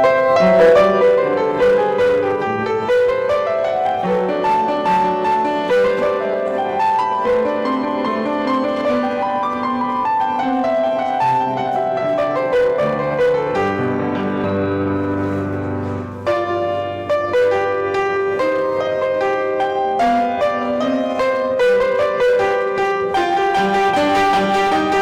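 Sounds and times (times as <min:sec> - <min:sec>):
classical piano piece: 0:00.0 - 0:25.0.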